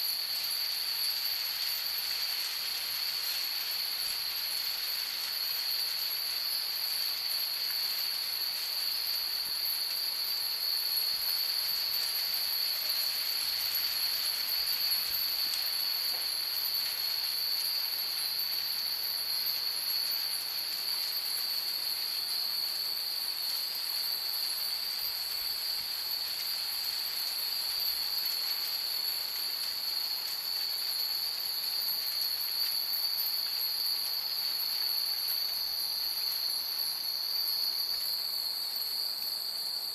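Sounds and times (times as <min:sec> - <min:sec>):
steady high-pitched hiss: 0:00.0 - 0:39.9.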